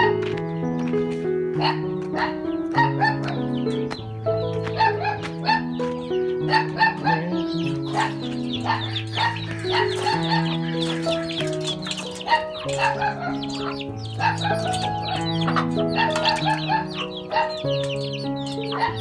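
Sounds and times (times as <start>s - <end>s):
background music with held notes: 0.0s - 19.0s
young chickens clucking and peeping: 0.0s - 19.0s.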